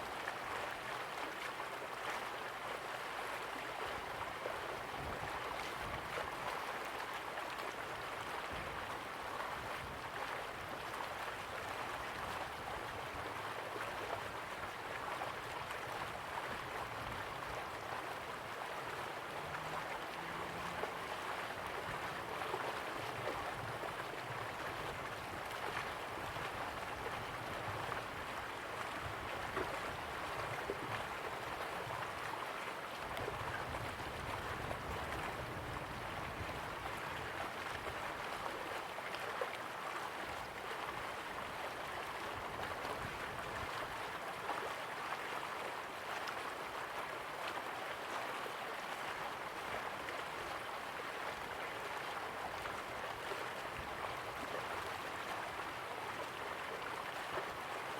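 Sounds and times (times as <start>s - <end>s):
river water rushing: 0.0s - 57.9s
water splashes and trickles: 0.0s - 57.9s.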